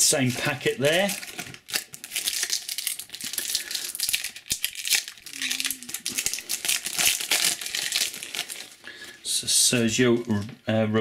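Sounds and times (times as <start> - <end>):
foil pack crinkling and tearing: 0.0 - 10.5.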